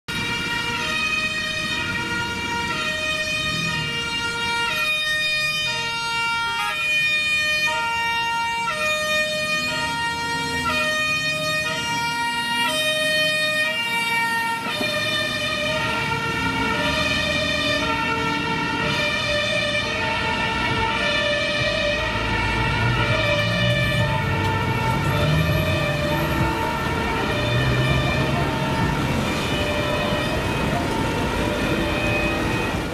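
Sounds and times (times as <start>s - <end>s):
fire engine two-tone siren: 0.1s - 32.9s
traffic noise: 0.1s - 32.9s.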